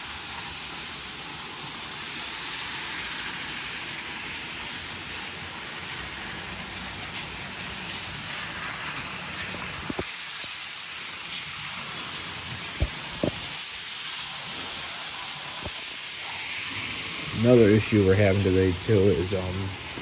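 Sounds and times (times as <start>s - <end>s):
constant hiss: 0.0s - 20.0s
model train rumbling on track: 0.0s - 20.0s.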